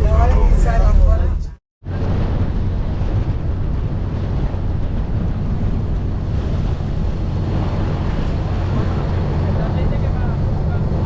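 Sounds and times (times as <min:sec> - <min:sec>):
boat engine low rumble: 0:00.0 - 0:11.0
wind buffeting microphone: 0:00.0 - 0:11.0.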